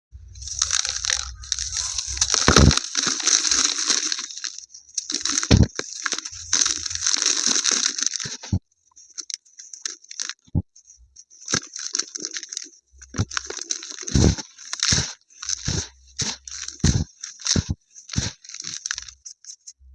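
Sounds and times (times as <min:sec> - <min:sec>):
dried paste crunching: 0:00.2 - 0:19.8.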